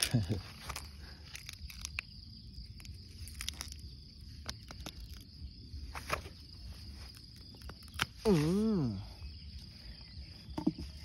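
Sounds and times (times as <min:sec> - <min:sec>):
clicks and rustles in pine needles: 0:00.0 - 0:09.7
insects chirring: 0:00.0 - 0:11.0.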